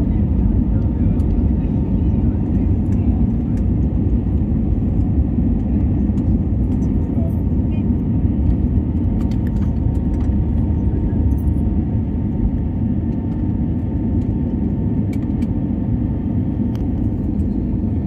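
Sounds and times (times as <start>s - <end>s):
airliner engines rumbling in cabin: 0.0s - 18.0s.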